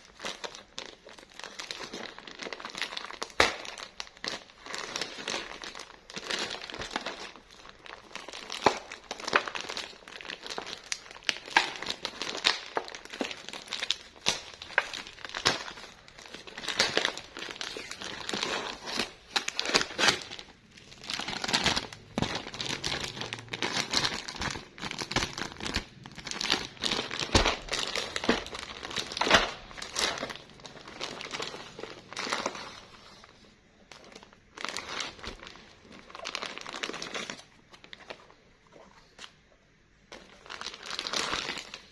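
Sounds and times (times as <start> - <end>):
plastic packaging crinkling: 0.0 - 39.3, 40.1 - 41.9.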